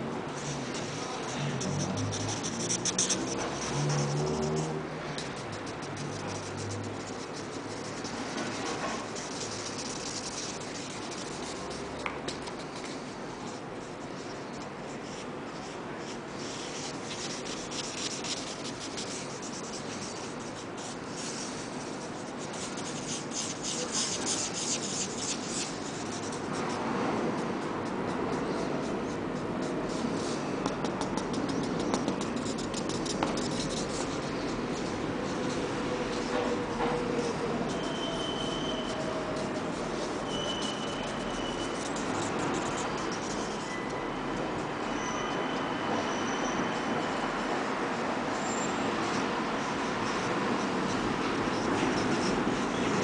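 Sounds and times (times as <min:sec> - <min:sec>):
marker scribbling on paper: 0:00.3 - 0:45.2, 0:48.3 - 0:53.0.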